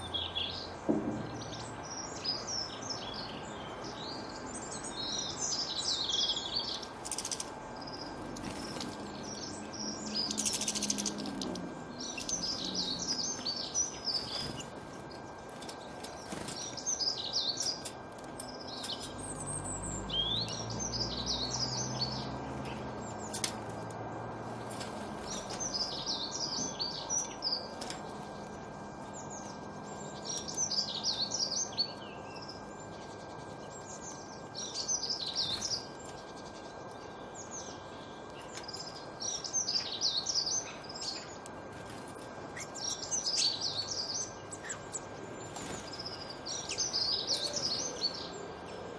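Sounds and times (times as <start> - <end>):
songbirds chirping and twittering: 0.0 - 48.9.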